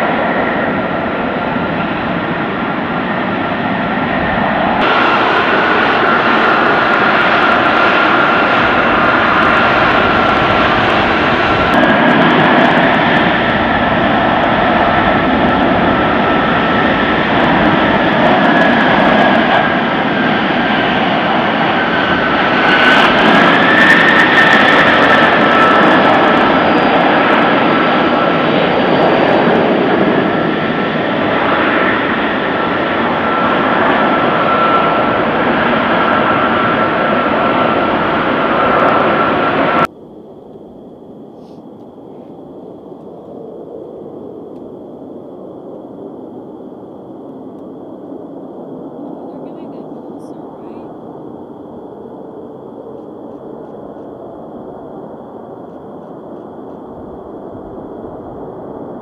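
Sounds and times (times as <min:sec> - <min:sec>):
jet engine whining and roaring: 0:00.0 - 0:59.0.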